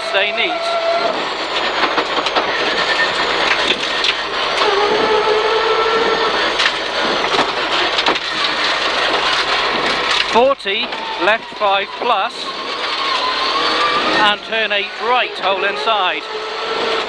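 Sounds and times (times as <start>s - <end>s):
rally car engine working hard: 0.0s - 17.0s
road noise in car cabin: 0.0s - 17.0s.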